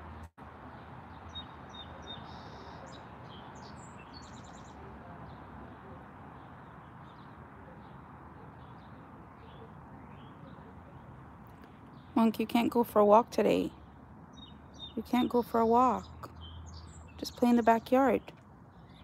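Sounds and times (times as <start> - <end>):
outdoor background hiss: 0.0 - 19.0
small birds chirping: 0.7 - 19.0.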